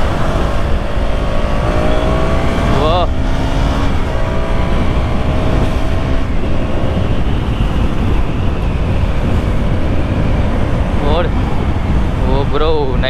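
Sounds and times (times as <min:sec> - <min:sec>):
motorcycle engine running: 0:00.0 - 0:12.2
wind rushing over microphone: 0:00.0 - 0:13.0.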